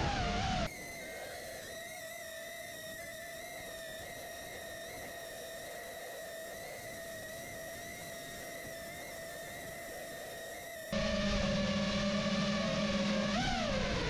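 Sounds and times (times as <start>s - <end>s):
electric motors and propellers whining: 0.0s - 14.0s.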